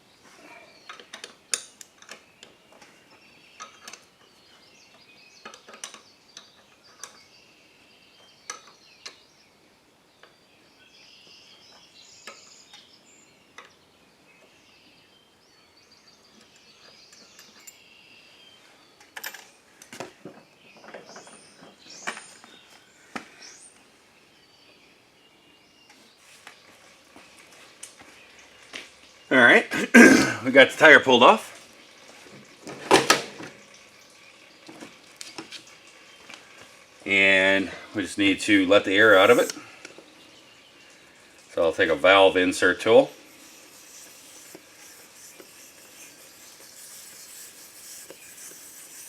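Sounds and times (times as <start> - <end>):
birds chirping faintly: 0.0 - 32.7, 33.3 - 49.0.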